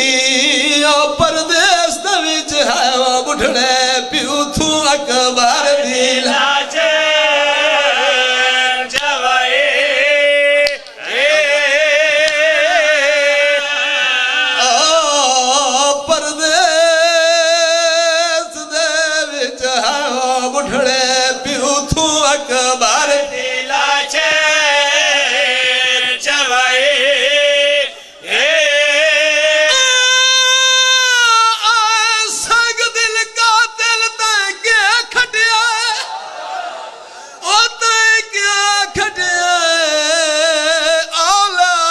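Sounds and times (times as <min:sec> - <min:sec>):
man singing a mournful lament: 0:00.0 - 0:36.1, 0:37.4 - 0:41.9
echo of voice: 0:00.0 - 0:41.9.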